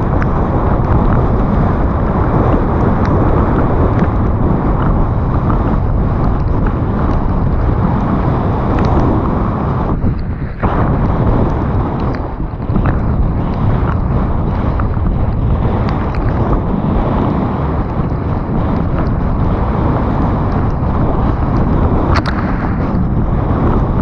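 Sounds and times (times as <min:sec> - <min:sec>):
bike clicks and rattles: 0:00.0 - 0:24.0
bike tyre rumble on trail: 0:00.0 - 0:24.0
wind rushing over microphone: 0:00.0 - 0:24.0.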